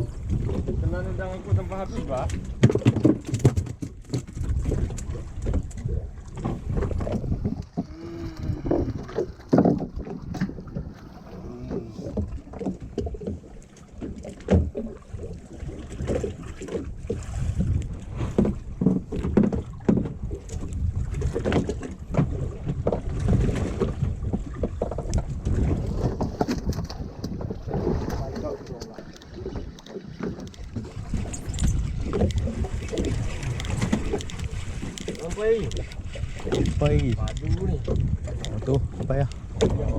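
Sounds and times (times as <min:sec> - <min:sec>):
water slapping hull: 0:00.0 - 0:39.9
wind buffeting microphone: 0:00.0 - 0:39.9.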